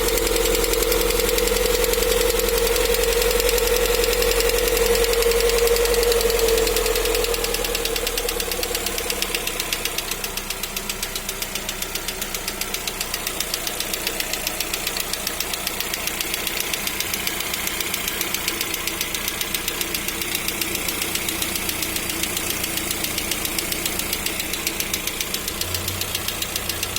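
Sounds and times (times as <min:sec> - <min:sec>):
engine running with fast knock: 0:00.0 - 0:26.9.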